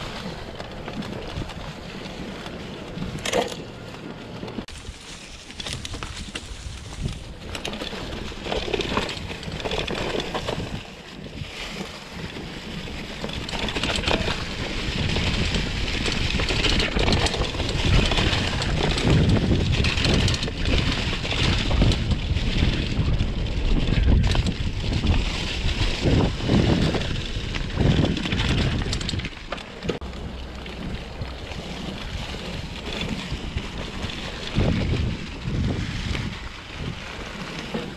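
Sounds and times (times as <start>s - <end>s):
bike tyres rolling over dry leaves: 0.0s - 37.9s
wind rumbling on microphone: 0.0s - 37.9s.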